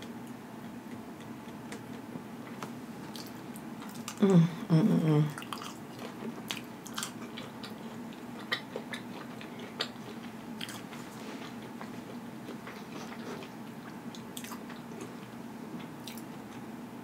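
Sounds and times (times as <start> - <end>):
faint steady hum: 0.0 - 17.0
person chewing food: 0.8 - 4.2, 5.3 - 16.6.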